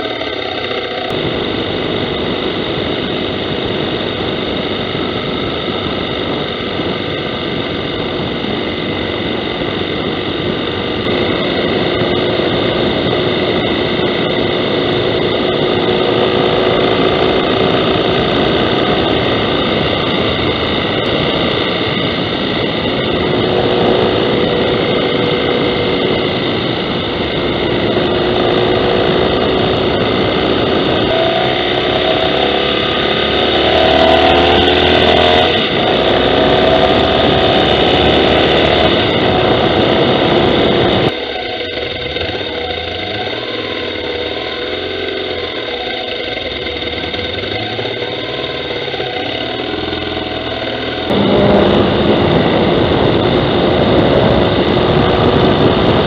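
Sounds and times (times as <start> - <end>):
motorcycle engine droning: 0.0 - 56.0
wind rush: 0.0 - 56.0.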